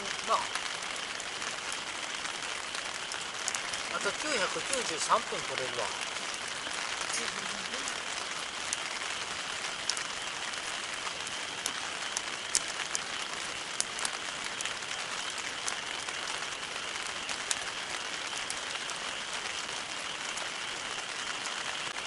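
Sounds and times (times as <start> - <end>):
burning wood popping: 0.0 - 19.2
campfire crackling: 0.0 - 22.0.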